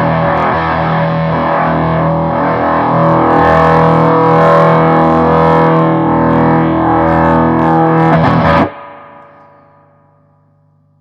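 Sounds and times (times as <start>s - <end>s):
fuzz-distorted plucked strings: 0.0s - 9.6s.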